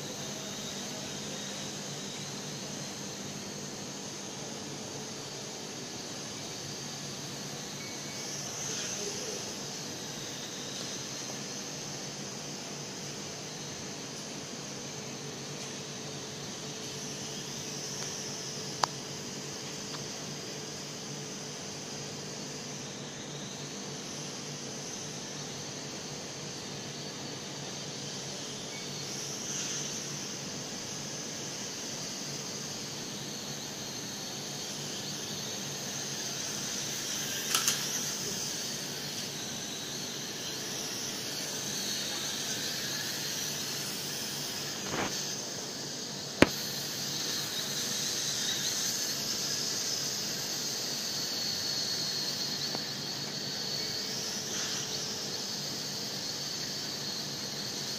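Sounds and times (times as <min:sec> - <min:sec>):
toy drone propellers whining: 0:00.0 - 0:11.6, 0:22.2 - 0:57.9.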